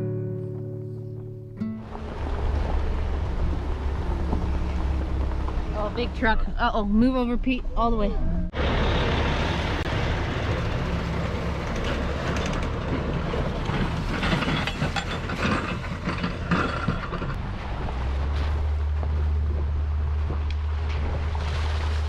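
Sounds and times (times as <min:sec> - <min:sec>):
truck passing with clattering: 0:01.7 - 0:07.5, 0:08.5 - 0:22.0
vehicle driving drone: 0:01.8 - 0:06.5, 0:08.1 - 0:22.0.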